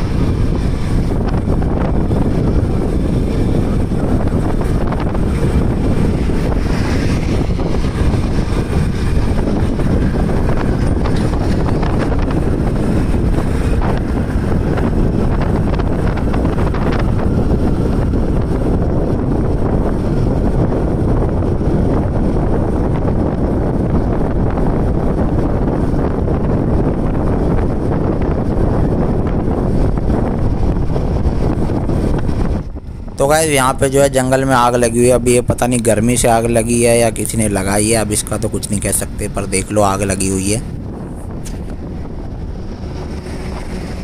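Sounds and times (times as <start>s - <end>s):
scooter engine and road noise: 0.0s - 44.0s
wind rush on microphone: 0.0s - 44.0s.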